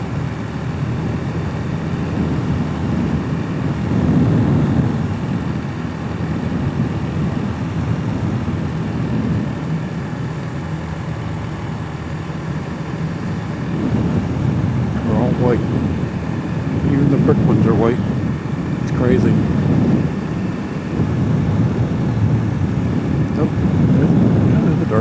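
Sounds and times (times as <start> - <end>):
motorcycle engine running: 0.0 - 25.0
wind noise on microphone: 0.0 - 25.0.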